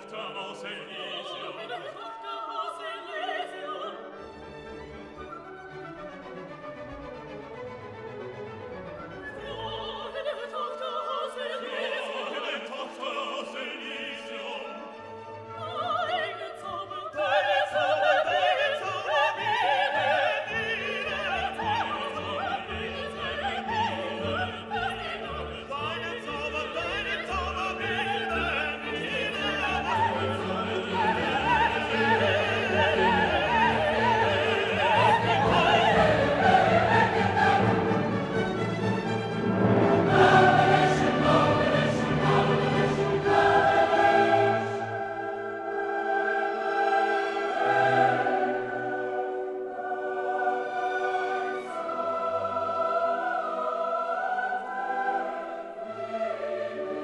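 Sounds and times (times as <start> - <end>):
orchestra playing: 0.0 - 17.1, 17.8 - 53.8
operatic singing: 0.0 - 57.0.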